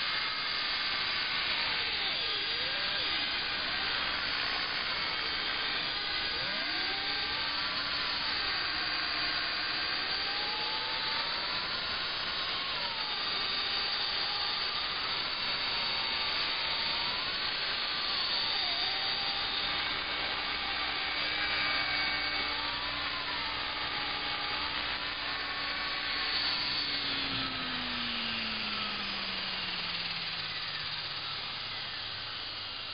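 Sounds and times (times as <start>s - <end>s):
motor spooling down: 0.0s - 32.9s
rc helicopter motor whine: 0.0s - 32.9s.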